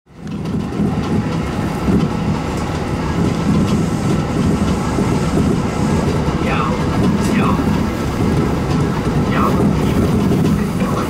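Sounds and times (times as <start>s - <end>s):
train wheels rumbling: 0.1s - 11.0s.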